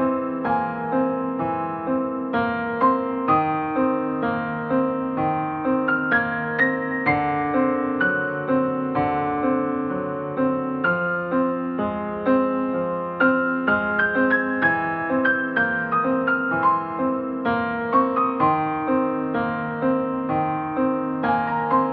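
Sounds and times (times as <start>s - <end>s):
piano melody: 0.0s - 21.9s.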